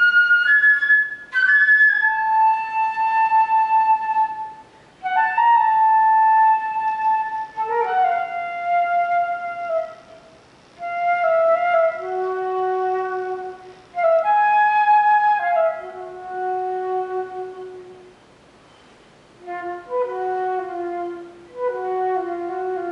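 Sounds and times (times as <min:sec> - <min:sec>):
solo flute playing: 0:00.0 - 0:18.2, 0:19.4 - 0:22.9.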